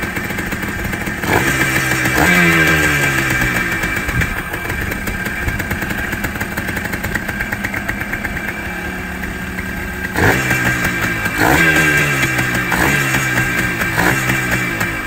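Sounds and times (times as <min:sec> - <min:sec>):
two-stroke engine idling: 0:00.0 - 0:15.0.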